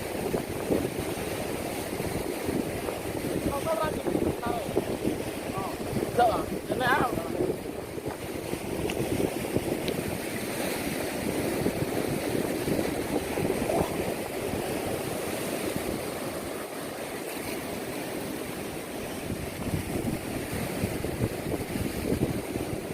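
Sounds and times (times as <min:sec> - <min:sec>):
sea water rushing: 0:00.0 - 0:22.9
wind noise on microphone: 0:00.0 - 0:22.9.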